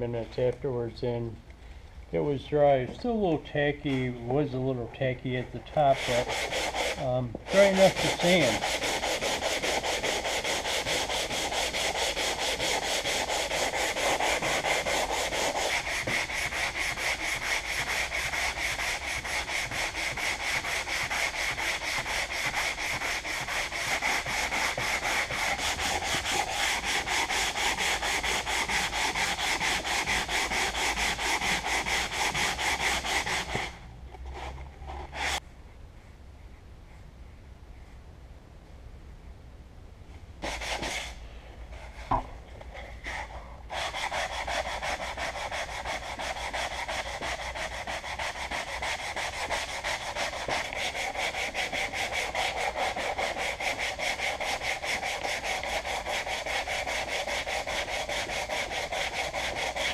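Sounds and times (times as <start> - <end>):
sandpaper rubbing strokes: 3.0 - 35.4, 40.4 - 59.9.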